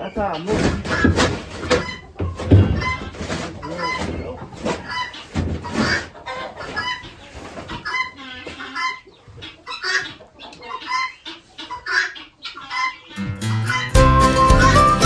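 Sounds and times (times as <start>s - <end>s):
young chickens clucking and cheeping: 0.0s - 15.0s.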